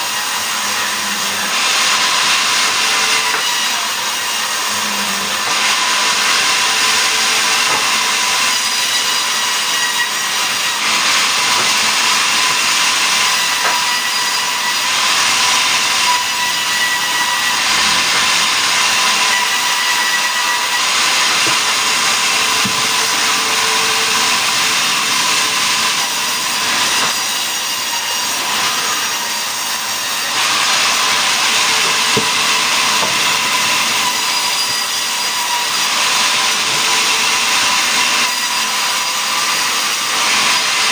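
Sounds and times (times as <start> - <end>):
sawmill saw cutting wood: 0.0 - 40.9.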